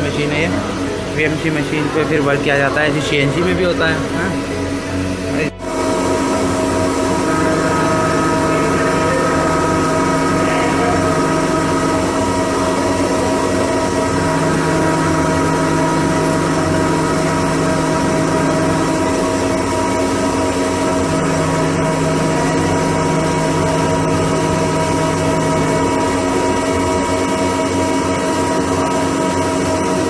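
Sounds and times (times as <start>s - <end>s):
low hum: 0.0s - 30.0s
machinery drone: 0.0s - 30.0s.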